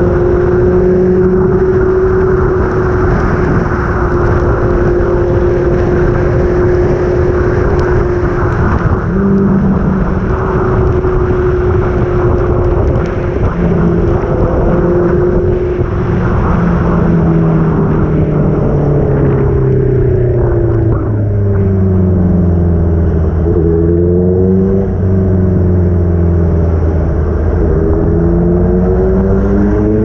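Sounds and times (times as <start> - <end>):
motorcycle engine running: 0.0 - 28.9
deeper engine tone: 0.0 - 30.0
wind rushing over microphone: 0.0 - 30.0.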